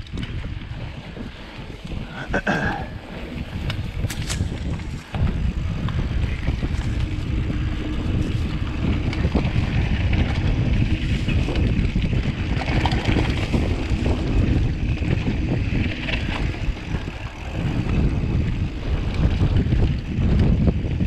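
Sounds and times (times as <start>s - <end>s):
bike clicks and rattles: 0.0s - 21.0s
wind buffeting microphone: 0.0s - 21.0s.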